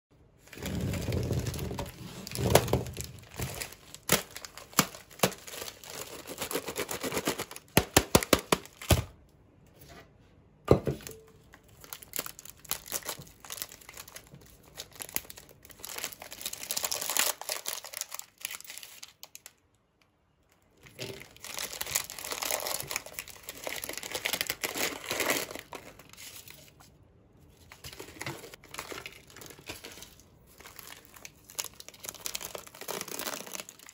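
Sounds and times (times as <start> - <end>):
plastic wrapping crinkling: 0.4 - 9.1, 11.1 - 19.6, 20.8 - 33.9.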